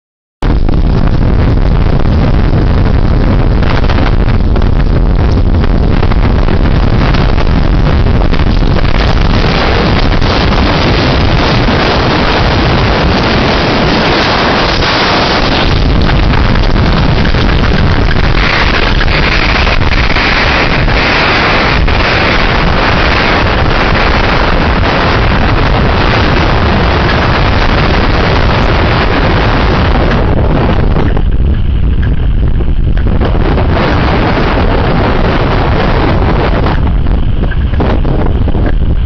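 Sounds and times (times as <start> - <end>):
wind buffeting microphone: 0.4 - 39.0.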